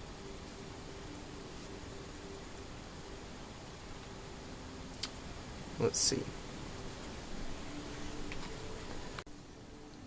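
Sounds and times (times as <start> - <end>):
background hiss: 0.0 - 10.0
faint wavering hum: 0.0 - 10.0.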